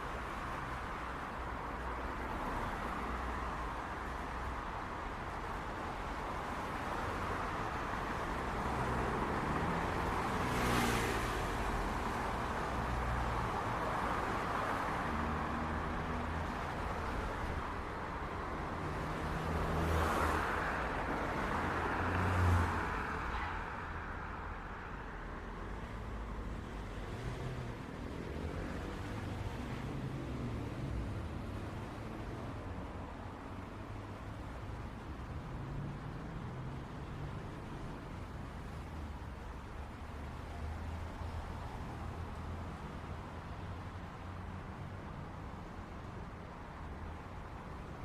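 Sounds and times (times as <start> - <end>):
city traffic rumble: 0.0 - 48.0
vehicles passing close: 0.0 - 48.0.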